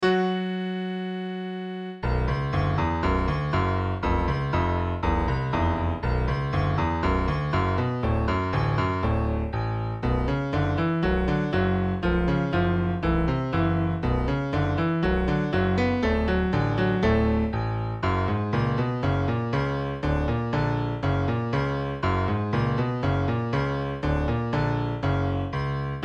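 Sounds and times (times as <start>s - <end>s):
keyboard music with bass: 0.0s - 26.0s.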